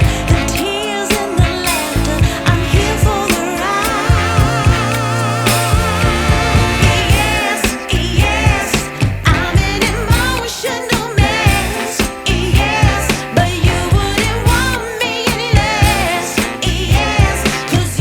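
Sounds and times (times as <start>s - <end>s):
pop song with singer: 0.0s - 18.0s
heavy pounding bass beat: 1.4s - 10.5s, 11.2s - 14.9s, 15.6s - 18.0s.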